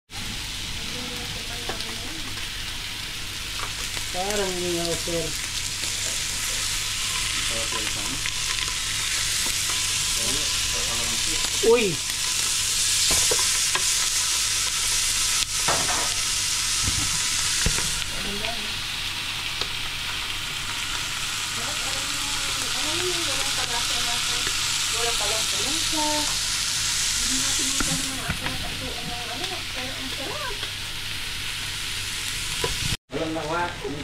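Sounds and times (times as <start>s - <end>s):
fish sizzling on a griddle: 0.2s - 34.0s.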